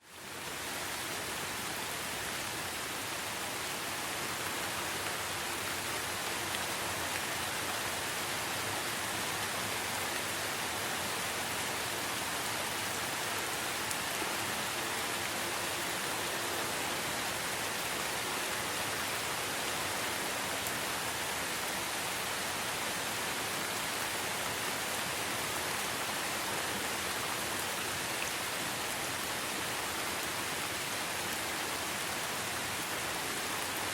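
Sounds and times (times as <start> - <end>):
light rain falling: 0.0 - 33.9.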